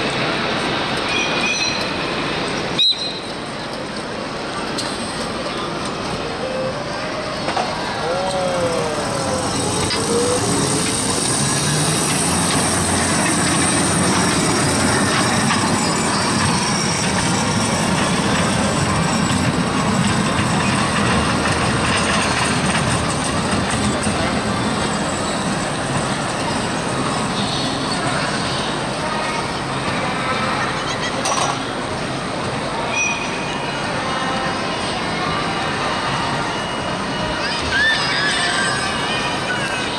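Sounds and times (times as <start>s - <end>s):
crowd noise: 0.0s - 39.9s
miniature train rolling on track: 0.0s - 39.9s.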